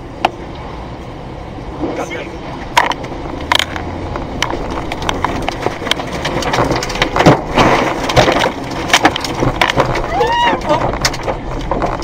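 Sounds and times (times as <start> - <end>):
storm wind around car: 0.0 - 12.0
rain and debris pelting car: 0.4 - 12.0.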